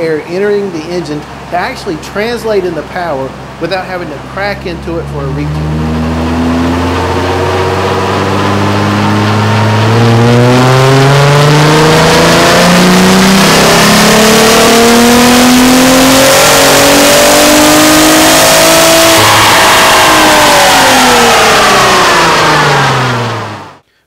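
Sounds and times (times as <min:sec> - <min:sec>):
car engine revving at full throttle: 0:00.6 - 0:23.8.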